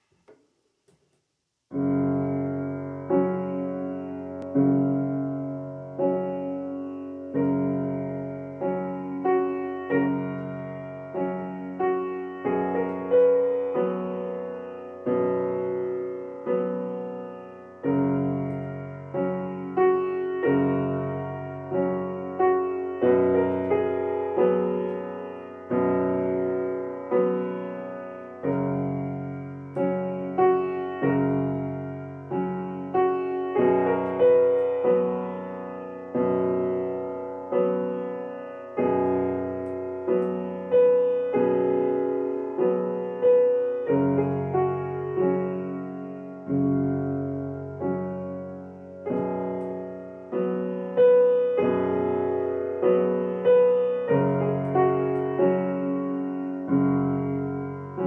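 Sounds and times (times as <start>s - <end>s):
slow piano playing: 1.7s - 58.0s.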